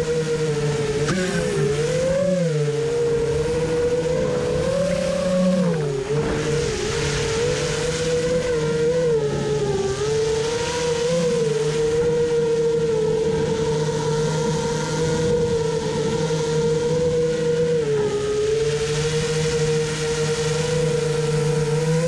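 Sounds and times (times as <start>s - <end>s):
small motor whining: 0.0s - 22.0s.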